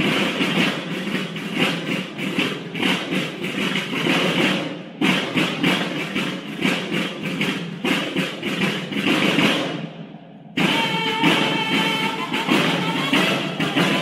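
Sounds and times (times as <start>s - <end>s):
snare drums beating marching cadence: 0.0s - 14.0s.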